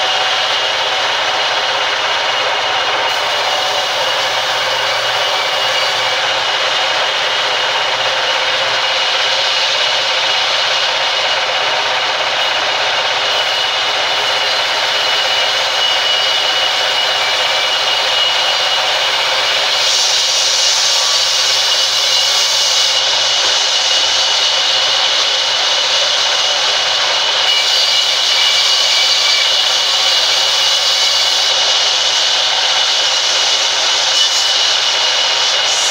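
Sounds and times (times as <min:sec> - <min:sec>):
band saw cutting wood: 0:00.0 - 0:35.9
thin high saw tone: 0:00.0 - 0:35.9.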